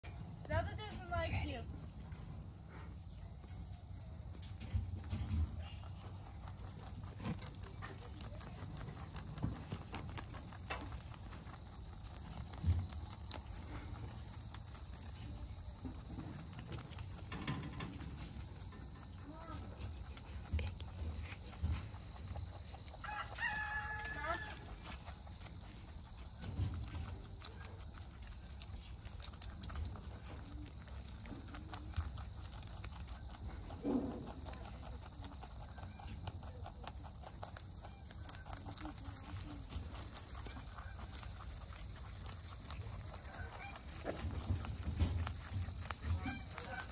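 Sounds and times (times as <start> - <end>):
rabbits chewing greens: 0.0 - 46.9.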